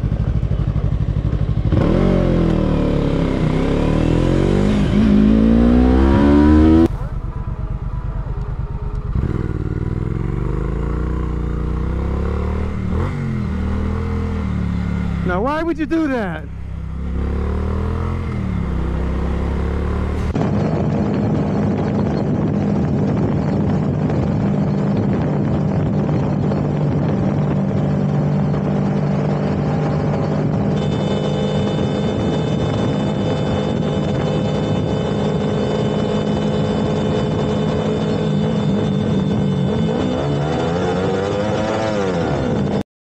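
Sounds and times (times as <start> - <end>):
motorcycle engine cruising: 0.0 - 42.8
road and wind noise: 0.0 - 42.8.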